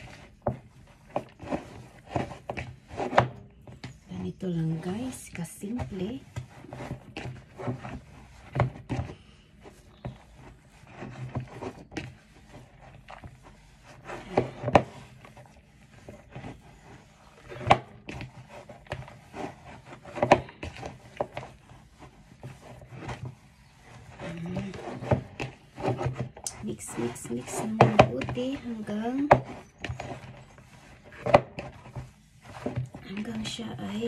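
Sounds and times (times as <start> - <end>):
hands kneading dough: 0.0 - 34.0.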